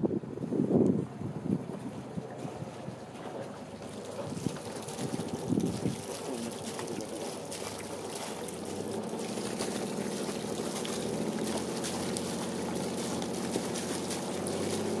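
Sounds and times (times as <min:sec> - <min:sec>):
seawater splashing and trickling: 0:01.8 - 0:15.0.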